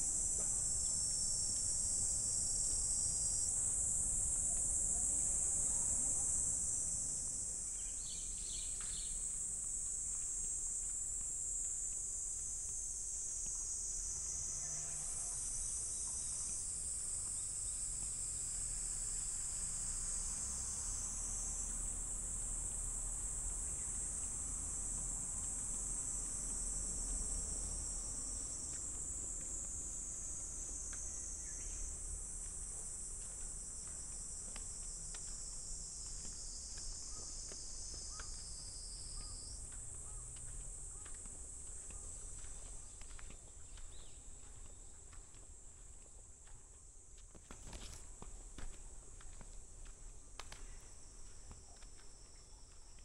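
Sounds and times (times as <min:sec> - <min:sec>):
faint footsteps on a path: 0:00.0 - 0:53.0.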